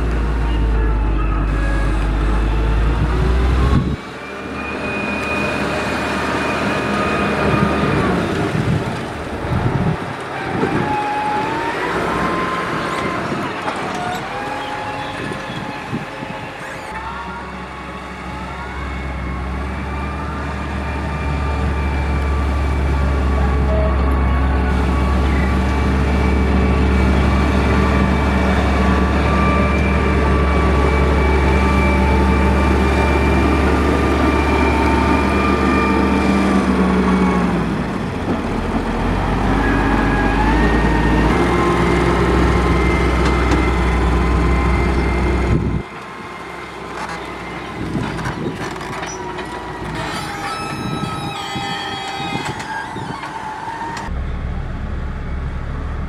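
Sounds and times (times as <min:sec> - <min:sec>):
diesel engine rumbling with whine: 0:00.0 - 0:56.0.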